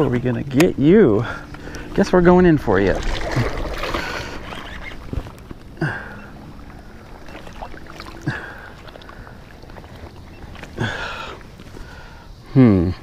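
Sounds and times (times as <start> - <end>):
water sloshing through weeds: 0.0 - 12.2.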